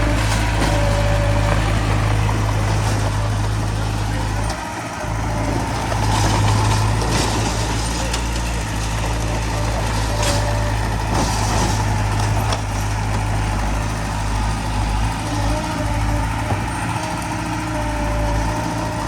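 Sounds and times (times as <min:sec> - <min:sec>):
heavy diesel engine under load: 0:00.0 - 0:19.0.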